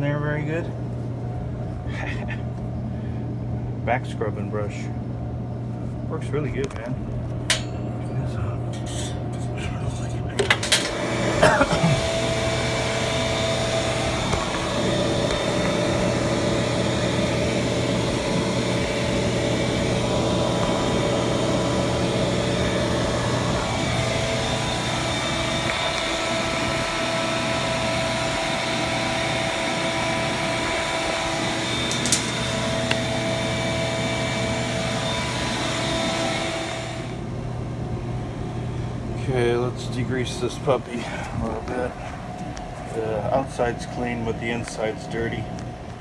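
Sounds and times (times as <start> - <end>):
freezer compressor humming: 0.0 - 46.0.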